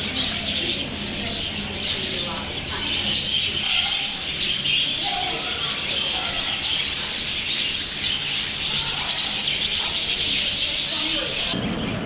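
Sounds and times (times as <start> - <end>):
budgerigars chattering and warbling: 0.0 - 12.0.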